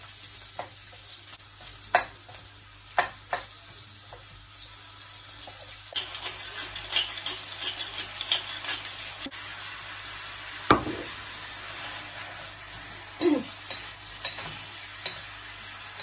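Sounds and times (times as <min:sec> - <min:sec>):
pork sizzling in a wok: 0:00.0 - 0:16.0.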